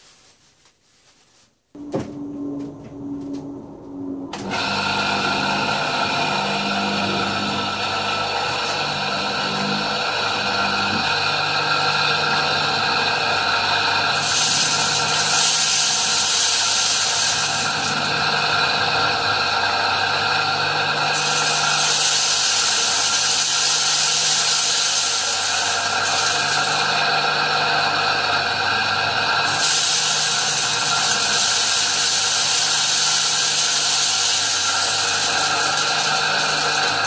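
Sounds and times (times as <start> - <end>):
mill motor whining: 1.8 - 37.0.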